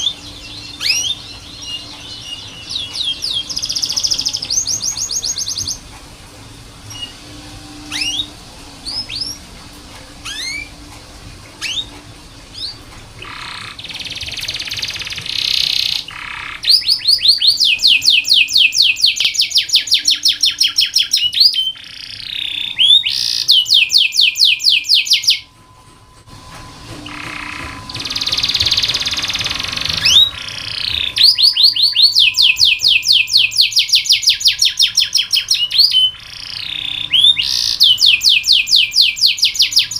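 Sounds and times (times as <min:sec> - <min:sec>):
canary singing: 0:00.0 - 0:06.0, 0:06.8 - 0:25.8, 0:26.5 - 0:39.9.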